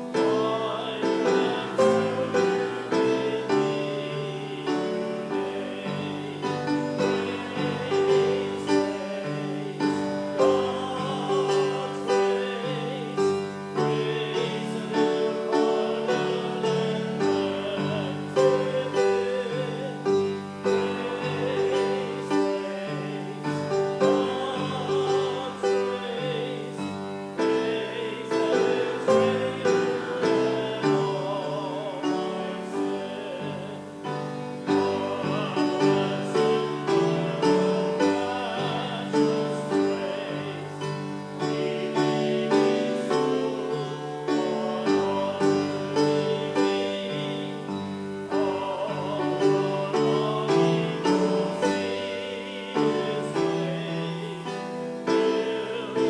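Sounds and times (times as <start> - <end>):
keyboard accompaniment: 0.0 - 56.0
voices singing a slow hymn: 0.0 - 56.0.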